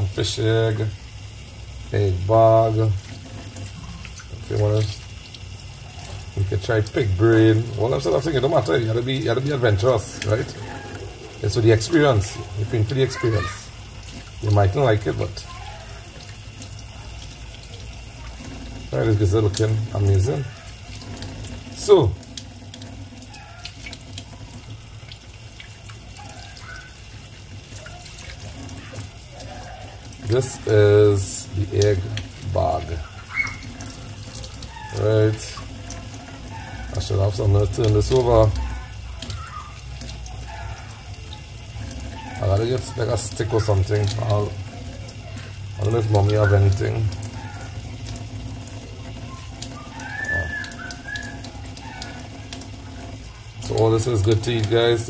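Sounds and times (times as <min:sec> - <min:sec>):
tap water trickling into sink: 0:00.0 - 0:55.0.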